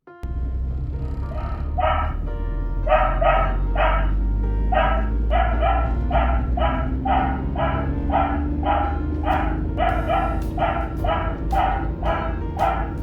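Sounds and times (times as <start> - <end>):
steady low rumble: 0.2 - 13.0
dog barking: 1.3 - 13.0.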